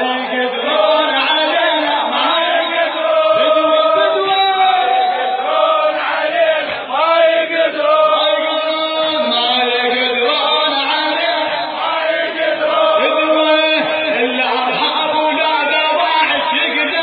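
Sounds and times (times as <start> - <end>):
man chanting: 0.0 - 5.8, 6.6 - 17.0.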